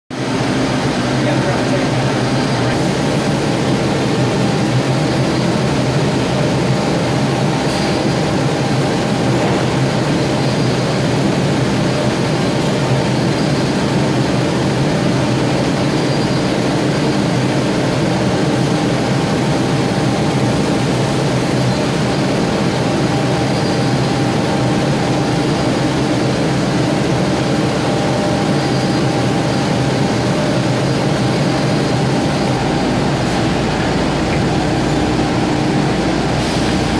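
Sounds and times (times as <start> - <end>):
machinery drone: 0.2 - 36.9.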